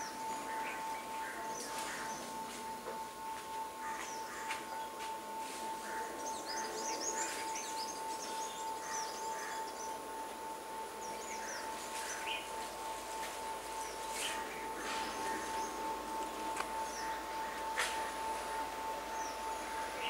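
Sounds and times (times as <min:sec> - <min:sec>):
birds chirping: 0:00.0 - 0:20.0
faint outdoor background noise: 0:00.0 - 0:20.0
steady high-pitched whine: 0:00.0 - 0:20.0.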